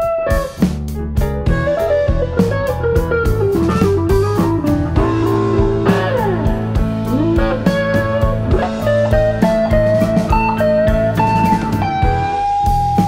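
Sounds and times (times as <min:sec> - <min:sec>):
guitar-led background music: 0:00.0 - 0:13.0.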